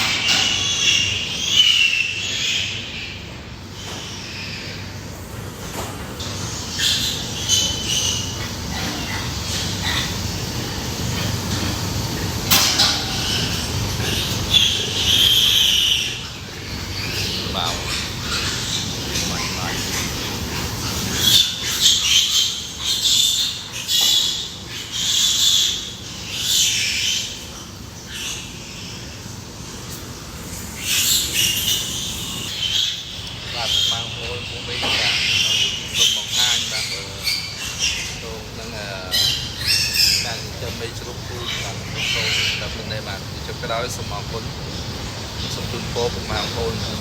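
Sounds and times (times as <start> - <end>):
pig squealing: 0.0 - 47.0.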